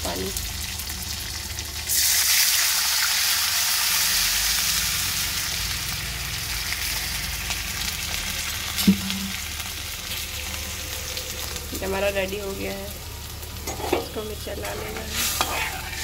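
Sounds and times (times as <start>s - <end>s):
water sizzling in hot oil: 0.0s - 16.0s.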